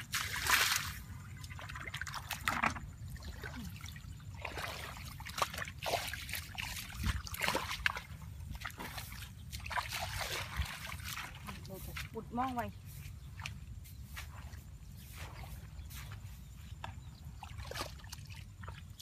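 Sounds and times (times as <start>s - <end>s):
muddy water sloshing: 0.0s - 19.0s.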